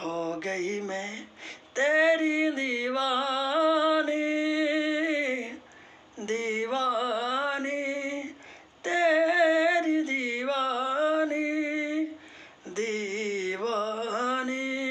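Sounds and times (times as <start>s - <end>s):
man singing unaccompanied: 0.0s - 14.9s.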